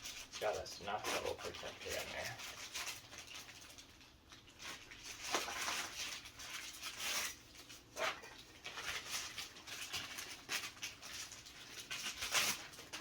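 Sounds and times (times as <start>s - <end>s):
plastic wrap rustling: 0.0s - 13.0s.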